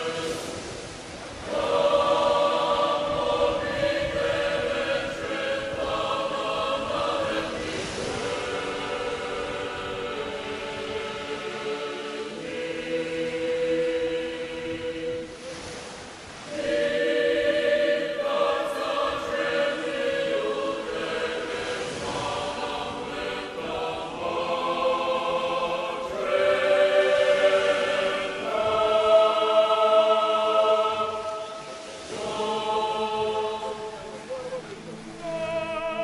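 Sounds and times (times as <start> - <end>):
slow choral singing: 0.0 - 36.0.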